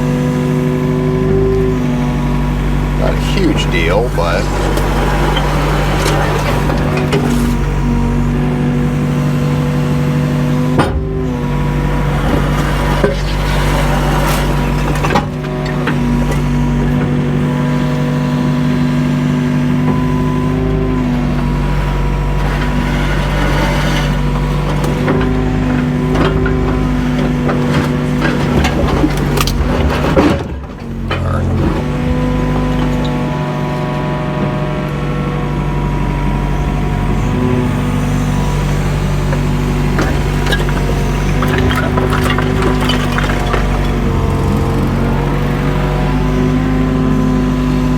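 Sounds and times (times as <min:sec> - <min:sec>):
diesel engine under load: 0:00.0 - 0:47.9
hydraulic whine: 0:00.0 - 0:47.9.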